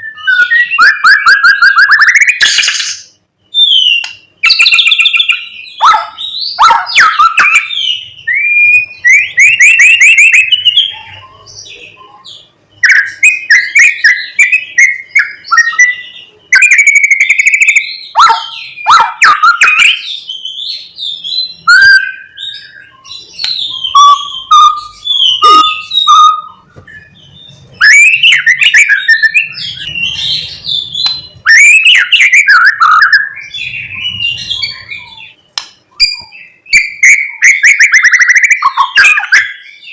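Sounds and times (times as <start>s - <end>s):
bird singing varied phrases: 0.0s - 39.9s.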